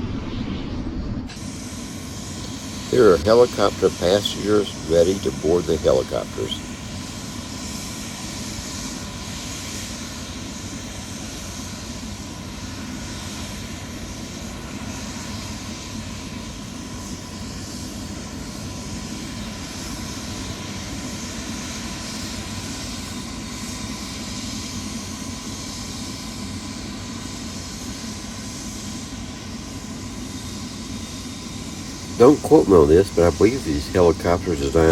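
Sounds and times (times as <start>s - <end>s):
helicopter turbine engines running: 0.0s - 34.9s.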